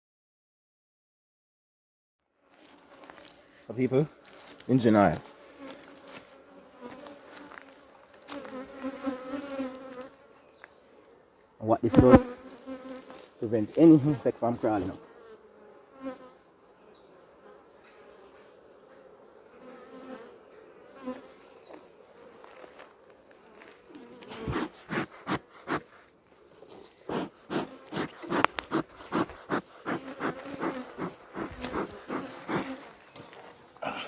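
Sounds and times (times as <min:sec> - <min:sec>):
bees buzzing: 0:02.8 - 0:11.2, 0:11.8 - 0:34.0.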